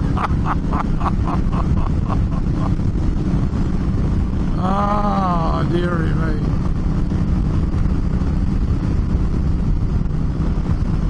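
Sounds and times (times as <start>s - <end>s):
motorcycle engine and wind noise: 0.0s - 11.0s.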